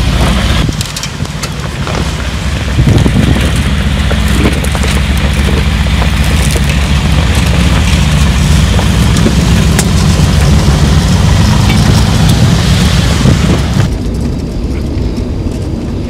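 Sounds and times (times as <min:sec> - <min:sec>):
tyres crunching on stones: 0:00.0 - 0:15.8
deep engine rumble: 0:00.0 - 0:16.0.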